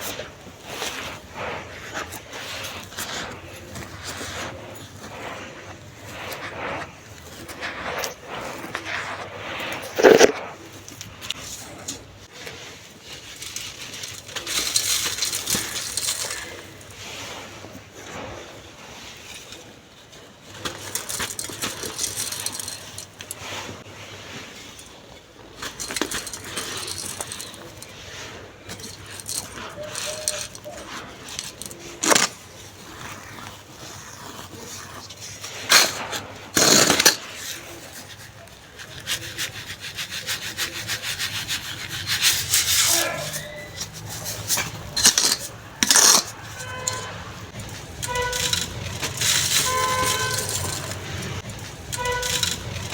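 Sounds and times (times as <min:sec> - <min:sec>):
sand crumbling and crackling: 0:00.0 - 0:19.3, 0:20.4 - 0:52.9.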